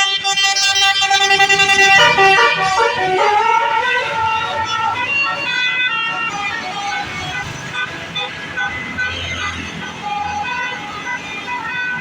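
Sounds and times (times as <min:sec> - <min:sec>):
bus air horn playing a tune: 0:00.0 - 0:12.0
bus engine running: 0:00.0 - 0:12.0.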